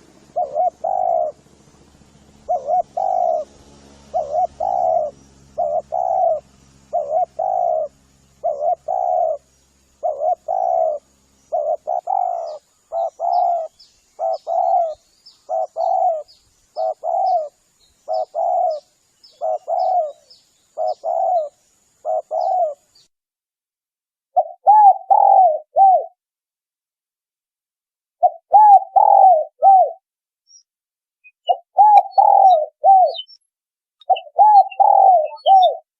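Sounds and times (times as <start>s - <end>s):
dove cooing: 0.0s - 1.4s, 2.4s - 23.0s, 24.4s - 26.2s, 28.2s - 30.0s, 31.5s - 33.3s, 34.0s - 35.9s.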